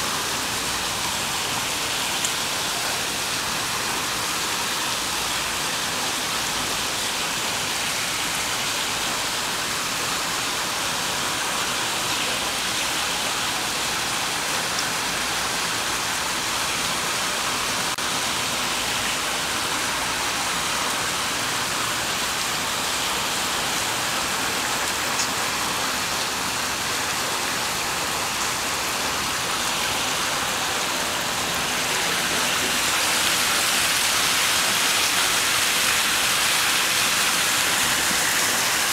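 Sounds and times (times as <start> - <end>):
fountain water rushing and splashing: 0.0 - 38.9.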